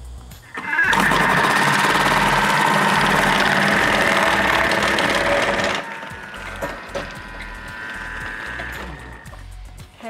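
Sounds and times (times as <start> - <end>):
food processor motor whirring: 0.5 - 9.4
grating disc shredding carrot: 0.6 - 9.3.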